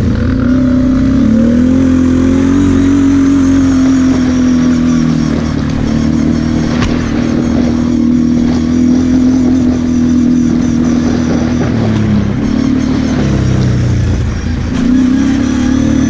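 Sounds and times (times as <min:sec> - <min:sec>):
quad engine running: 0:00.0 - 0:16.0.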